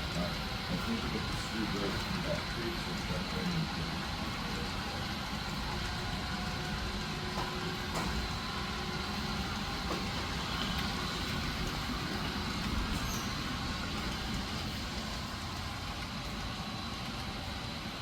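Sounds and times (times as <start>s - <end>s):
model train rumbling: 0.0s - 18.0s.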